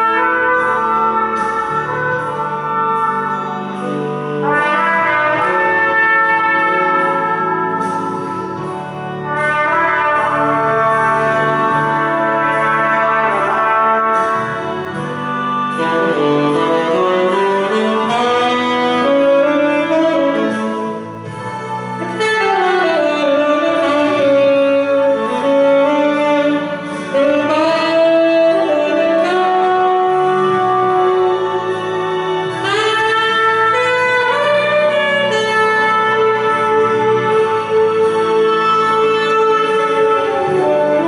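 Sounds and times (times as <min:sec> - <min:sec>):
sustained accompaniment: 0:00.0 - 0:41.0
tenor saxophone melody: 0:00.0 - 0:41.0.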